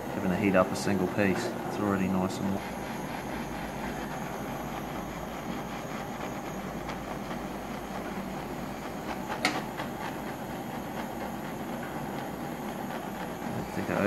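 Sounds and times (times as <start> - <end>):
gas torch burning: 0.0 - 14.0.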